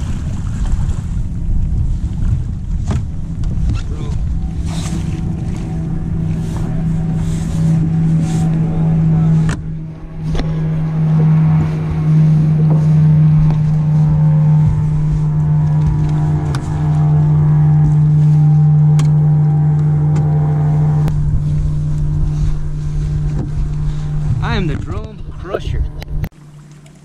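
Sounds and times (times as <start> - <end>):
electric trolling motor humming: 0.1 - 27.0.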